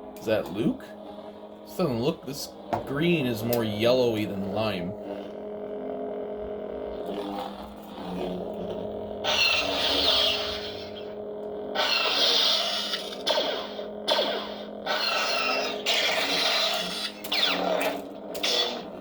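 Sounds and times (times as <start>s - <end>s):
electronic blade hum: 0.0s - 19.0s.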